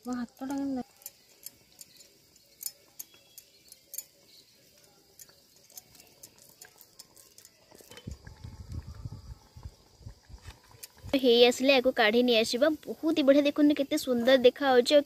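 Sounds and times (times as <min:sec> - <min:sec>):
oil crackling while deep-frying: 0:00.0 - 0:15.0.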